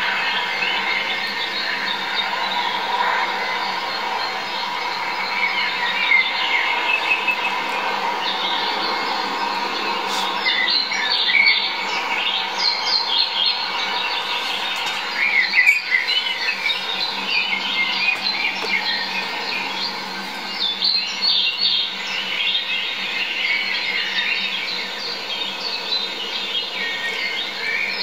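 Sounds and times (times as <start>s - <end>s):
birds chirping and singing: 0.0s - 28.0s
faint hum: 0.0s - 28.0s.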